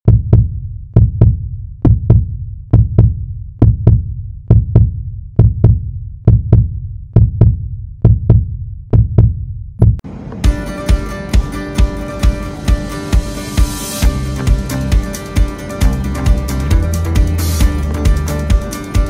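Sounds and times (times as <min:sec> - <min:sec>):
electronic beat with deep strikes: 0:00.1 - 0:19.0.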